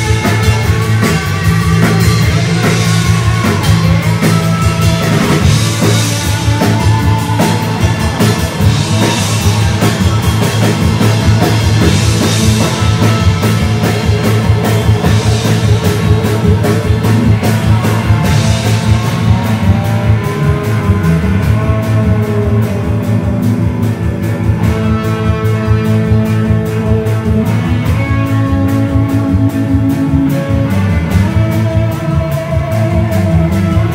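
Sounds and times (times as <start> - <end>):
bass: 0.0 - 33.9
drum kit: 0.0 - 33.9
electric guitar: 0.0 - 33.9.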